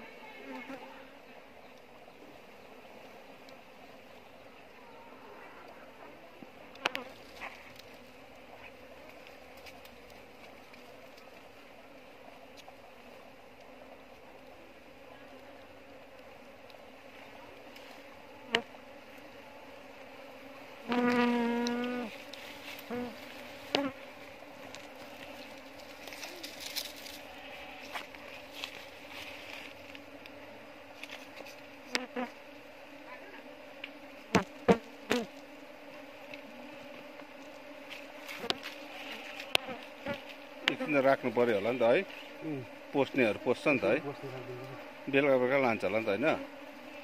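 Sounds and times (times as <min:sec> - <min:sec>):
bee buzzing close by: 0:00.0 - 0:47.0
bees humming: 0:00.0 - 0:47.0.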